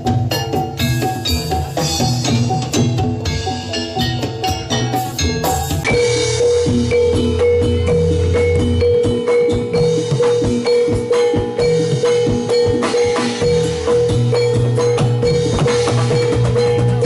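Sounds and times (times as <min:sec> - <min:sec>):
gamelan music over loudspeakers: 0:00.0 - 0:17.0.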